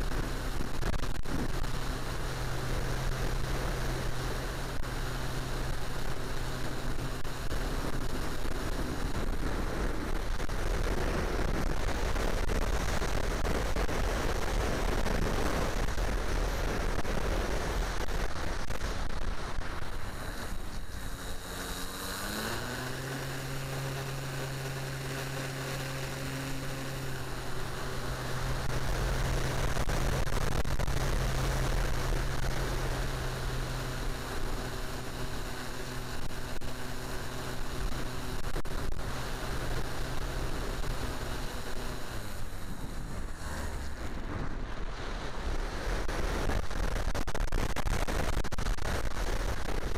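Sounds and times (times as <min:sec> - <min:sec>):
electric motor and propeller hum: 0:00.0 - 0:49.9
wind noise on microphone: 0:00.0 - 0:49.9.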